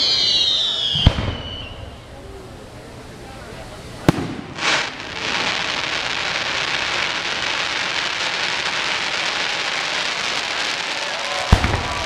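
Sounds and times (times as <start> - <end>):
firework burst: 0.0 - 2.0, 3.9 - 12.0
firework crackling: 0.0 - 12.0.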